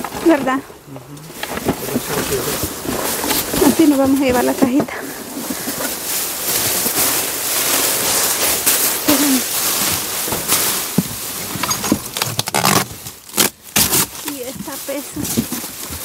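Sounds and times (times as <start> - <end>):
cardboard boxes scraping: 0.0 - 16.0
plastic bags crinkling: 0.0 - 16.0.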